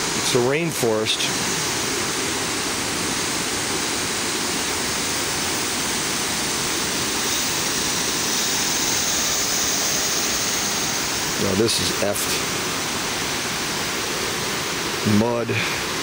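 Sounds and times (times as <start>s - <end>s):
waterfall roar: 0.0s - 16.0s.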